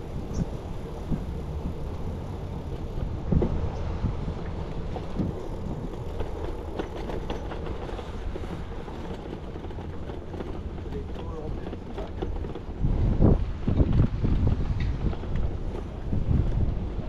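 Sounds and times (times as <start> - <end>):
bike knocks and rattles: 0.0 - 16.7
bicycle tyres rumbling: 0.0 - 17.0
wind on microphone: 0.0 - 17.0.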